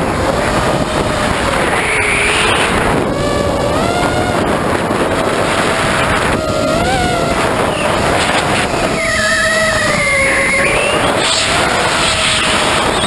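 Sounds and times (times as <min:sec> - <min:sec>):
electric motors whining: 0:00.0 - 0:13.0
wind on microphone: 0:00.0 - 0:13.0.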